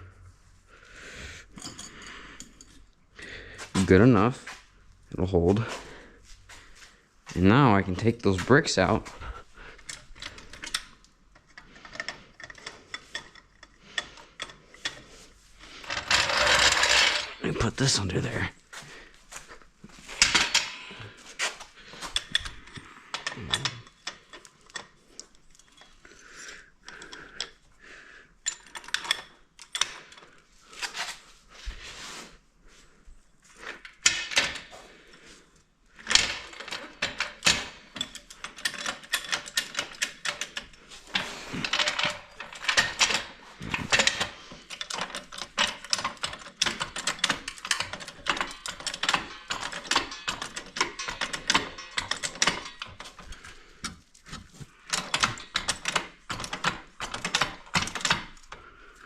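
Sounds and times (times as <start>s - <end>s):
tools and metal parts clattering: 1.5s - 4.6s, 5.4s - 27.7s, 28.4s - 31.4s, 33.5s - 35.3s, 36.0s - 59.0s.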